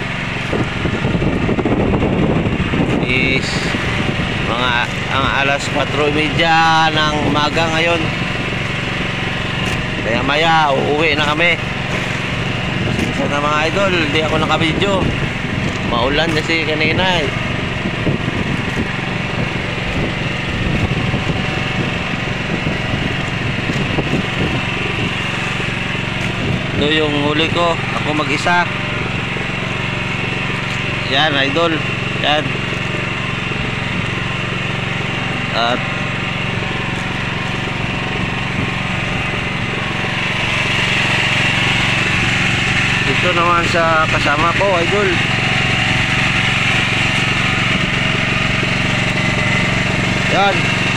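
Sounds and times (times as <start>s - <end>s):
small boat engine droning: 0.0s - 50.9s.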